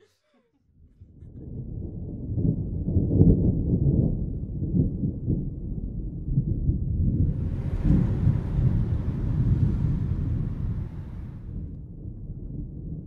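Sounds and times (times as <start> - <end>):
low muffled rumble: 0.7 - 13.0.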